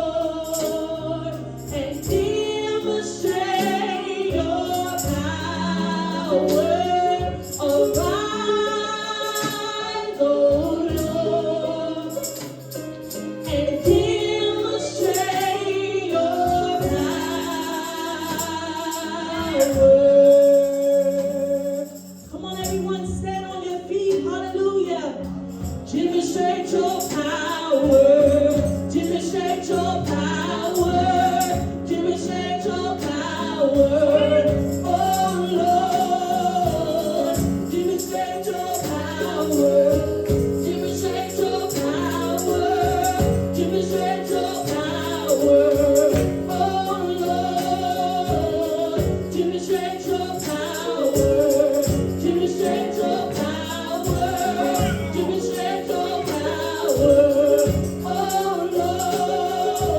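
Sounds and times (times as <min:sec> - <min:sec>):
choir singing over band: 0:00.0 - 0:21.0, 0:25.9 - 0:59.9.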